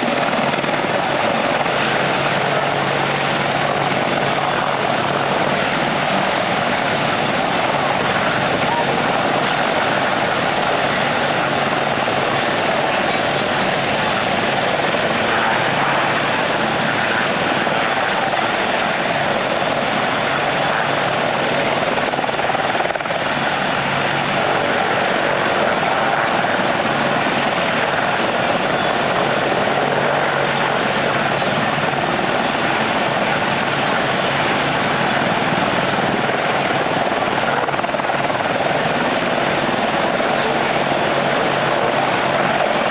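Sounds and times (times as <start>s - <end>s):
helicopter engines and rotors: 0.0s - 42.9s.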